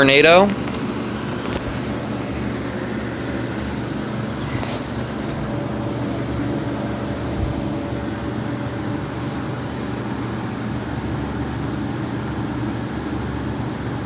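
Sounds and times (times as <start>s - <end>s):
fan motor hum: 0.0s - 14.0s.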